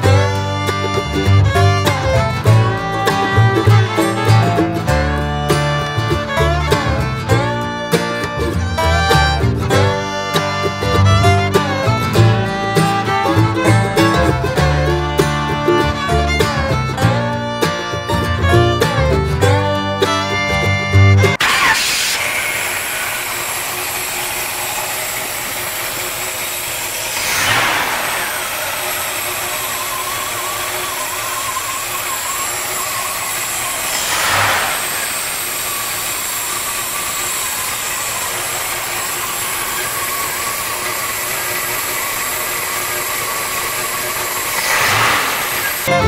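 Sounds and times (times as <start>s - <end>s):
engine idling with throttle blips: 0.0s - 46.0s.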